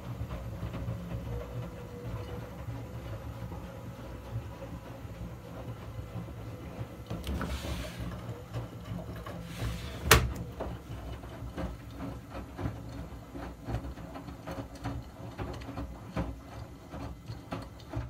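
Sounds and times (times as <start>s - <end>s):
washing machine drum rumbling: 0.0s - 18.0s.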